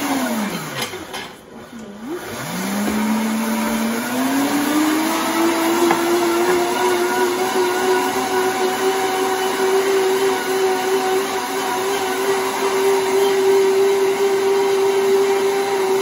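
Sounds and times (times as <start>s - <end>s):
blender motor whining: 0.0s - 16.0s.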